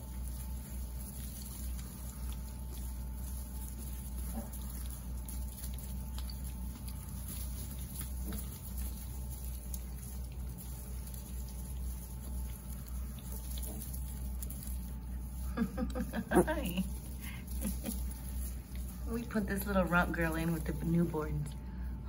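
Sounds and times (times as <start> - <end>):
rustling straw: 0.0 - 22.0
small hooves pattering: 0.0 - 22.0
steady low hum: 0.0 - 22.0.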